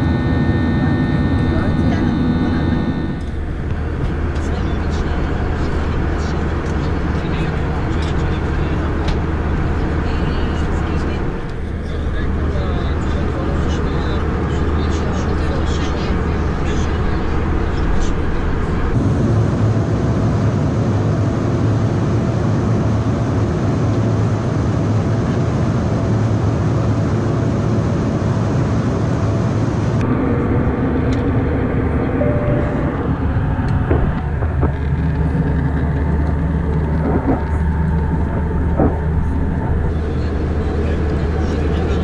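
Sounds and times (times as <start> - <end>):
vehicle rumble: 0.0 - 24.6, 29.1 - 42.0.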